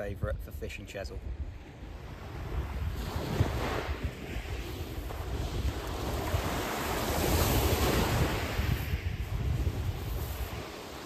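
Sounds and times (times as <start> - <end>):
wind buffeting microphone: 0.0 - 11.0
waves washing up shingle beach: 1.2 - 11.0.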